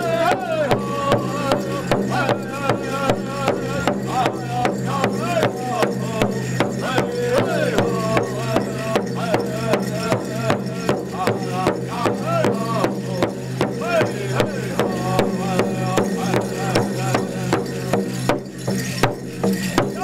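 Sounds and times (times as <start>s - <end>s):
group chanting: 0.0s - 18.1s
drum beating steadily: 0.0s - 20.0s.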